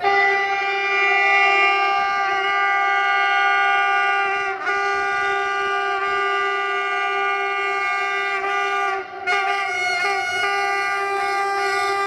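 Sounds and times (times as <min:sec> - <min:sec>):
locomotive air horn chord: 0:00.0 - 0:12.0.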